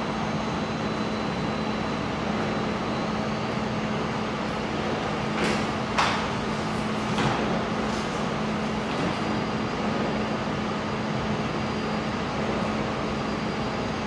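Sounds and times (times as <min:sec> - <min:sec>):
welding machine fan hum: 0:00.0 - 0:14.0.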